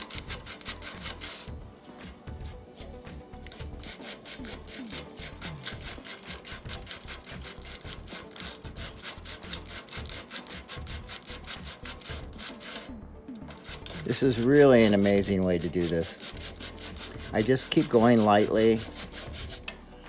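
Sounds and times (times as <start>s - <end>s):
sandpaper rubbing on frame: 0.0s - 1.5s, 2.3s - 12.9s, 13.5s - 19.6s.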